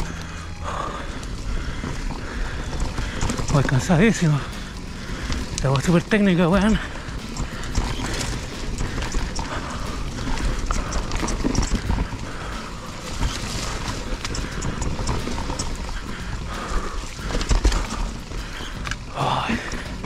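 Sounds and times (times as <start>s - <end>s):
steady low rumble: 0.0s - 20.0s
mountain bike clattering over rocks: 0.1s - 20.0s.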